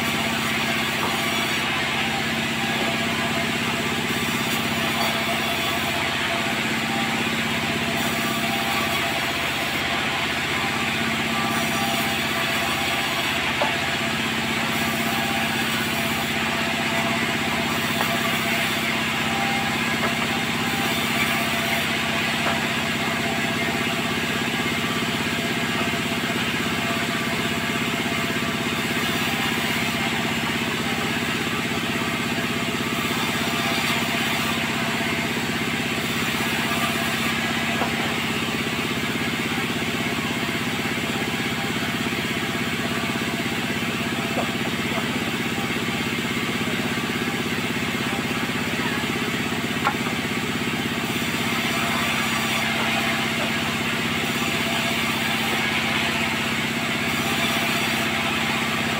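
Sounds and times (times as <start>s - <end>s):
sawmill machinery humming: 0.0s - 58.9s.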